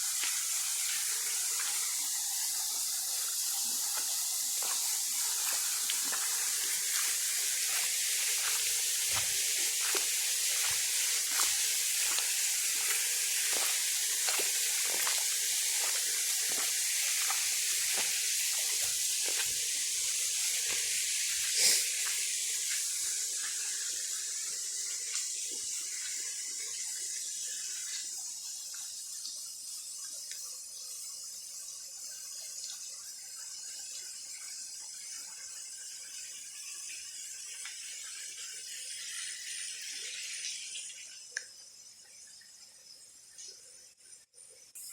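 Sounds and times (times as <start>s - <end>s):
water hissing with splashes: 0.0s - 44.0s.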